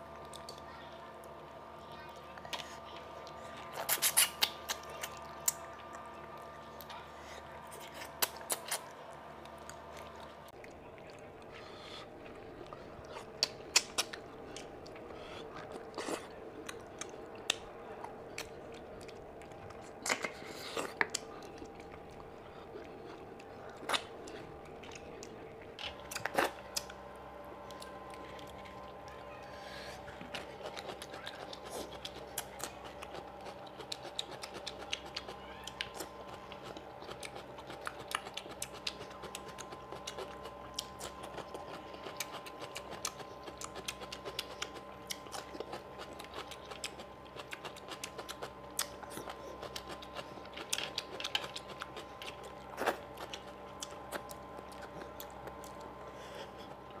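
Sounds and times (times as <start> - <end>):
person chewing cucumber: 0.0 - 0.6, 2.4 - 29.1, 29.9 - 57.0.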